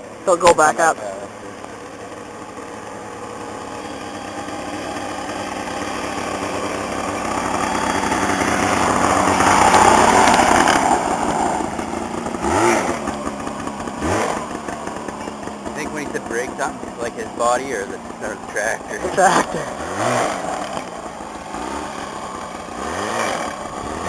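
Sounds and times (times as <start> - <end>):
lawn tractor engine running: 0.0 - 24.0.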